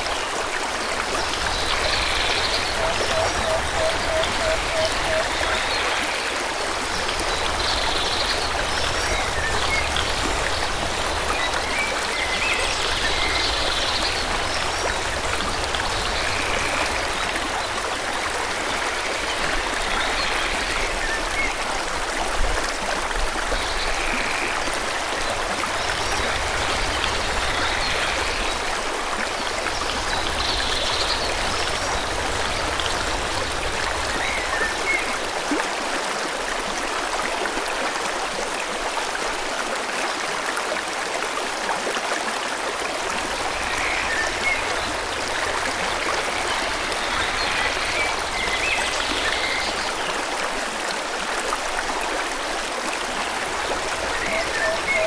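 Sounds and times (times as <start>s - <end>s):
forest stream flowing: 0.0s - 55.0s.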